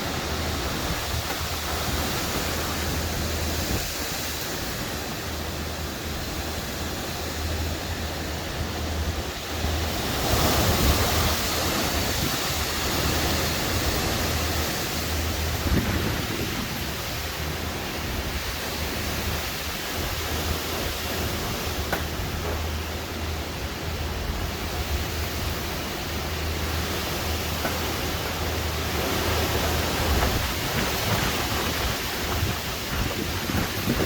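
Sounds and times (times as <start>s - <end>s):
wind and rain rushing: 0.0s - 34.0s.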